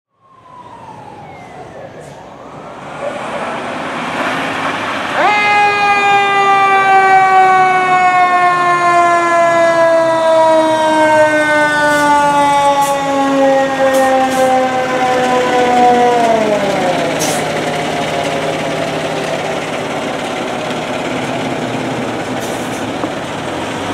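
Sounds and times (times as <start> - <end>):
mechanical siren wailing: 0.1 - 4.0, 5.0 - 20.8
fire truck engine: 0.1 - 23.9.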